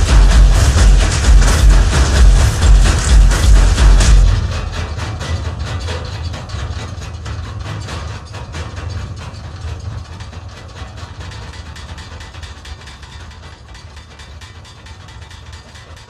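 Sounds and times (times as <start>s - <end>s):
rapid mechanical clicking: 0.0s - 16.0s.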